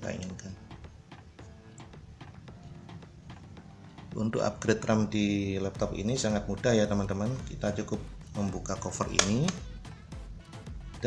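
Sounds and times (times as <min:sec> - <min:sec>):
quiet background music: 0:00.0 - 0:11.0
light ticking beat: 0:00.1 - 0:11.0.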